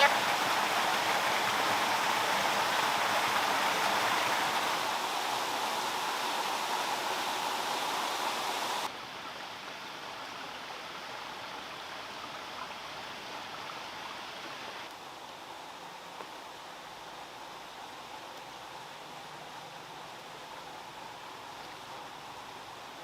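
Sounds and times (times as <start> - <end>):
dull hiss: 0.0 - 23.0
running water rushing: 0.0 - 23.0.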